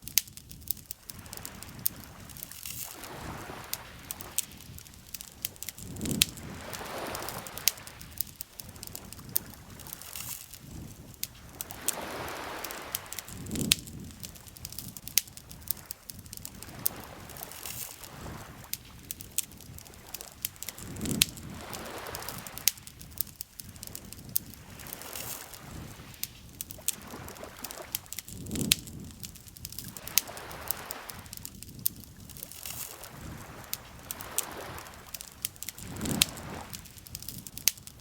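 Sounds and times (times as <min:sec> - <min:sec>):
campfire crackling and popping: 0:00.0 - 0:38.0
lake water lapping: 0:01.0 - 0:10.8, 0:11.4 - 0:13.4, 0:15.5 - 0:28.1, 0:29.9 - 0:31.4, 0:32.4 - 0:37.0.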